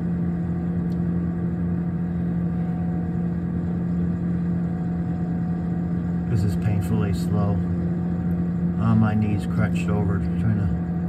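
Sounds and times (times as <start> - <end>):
refrigerator humming: 0.0 - 11.0.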